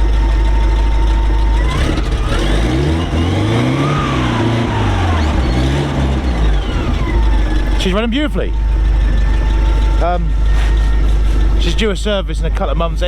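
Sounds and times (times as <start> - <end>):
petrol engine idling and revving: 0.0 - 13.0.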